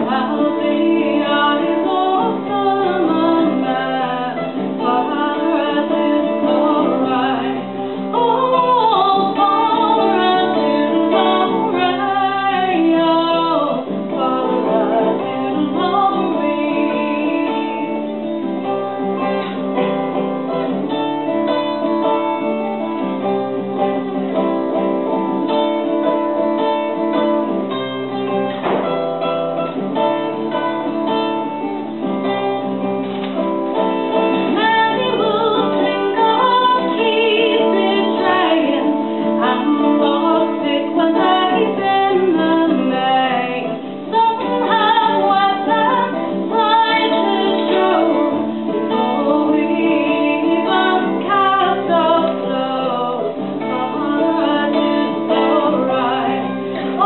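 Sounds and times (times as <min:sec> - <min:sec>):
acoustic guitar: 0:00.0 - 0:57.0
woman singing folk song: 0:00.0 - 0:57.0.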